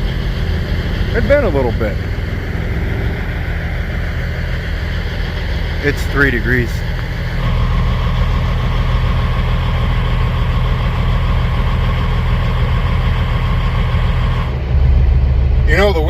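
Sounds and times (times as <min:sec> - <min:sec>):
high whine: 0:00.0 - 0:09.6, 0:11.4 - 0:16.0
diesel truck engine idling: 0:00.0 - 0:16.0.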